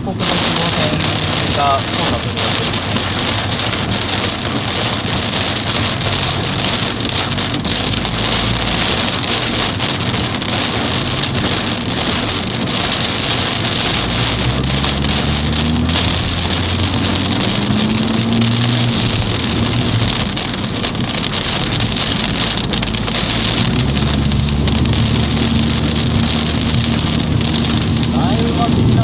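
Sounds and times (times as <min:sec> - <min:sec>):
car engine revving up: 0:00.0 - 0:29.0
heavy rain drumming on car: 0:00.0 - 0:29.0.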